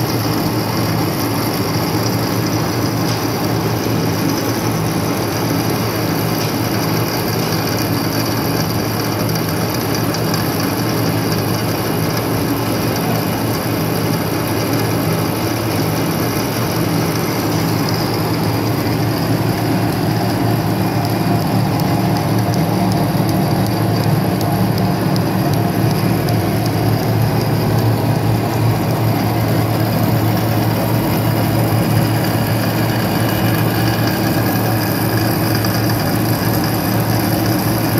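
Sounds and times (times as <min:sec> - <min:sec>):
wire-drawing machine humming: 0:00.0 - 0:37.9.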